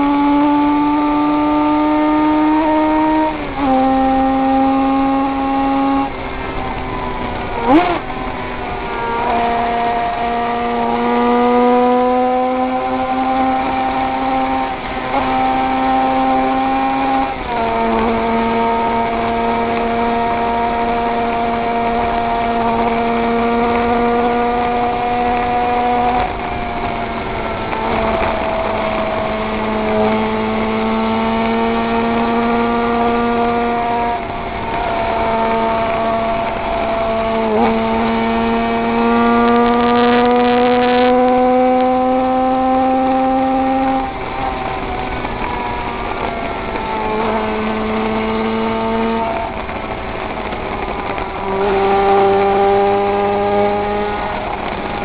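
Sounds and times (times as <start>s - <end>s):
racing motorcycle engine: 0.0s - 55.0s
wind noise: 0.0s - 55.0s.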